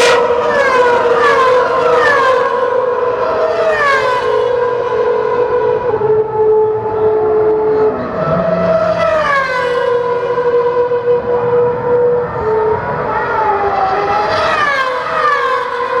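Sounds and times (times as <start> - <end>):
race car engines screaming past: 0.0 - 16.0.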